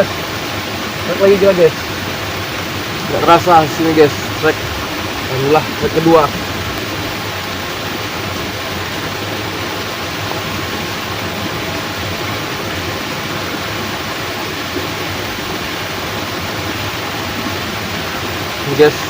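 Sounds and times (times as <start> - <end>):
heavy rain hiss: 0.0 - 19.0
rushing water: 0.0 - 19.0.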